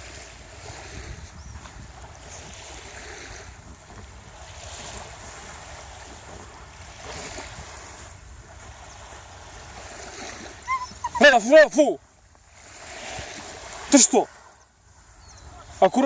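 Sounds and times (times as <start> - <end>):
wind rumble on microphone: 0.0 - 11.2, 12.0 - 15.8
sea surf washing on shore: 0.0 - 16.0.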